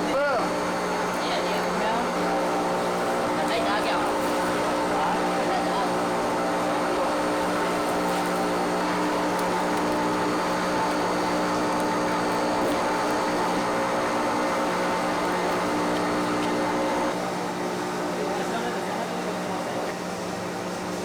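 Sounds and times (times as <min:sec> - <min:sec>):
factory machinery humming: 0:00.0 - 0:21.0.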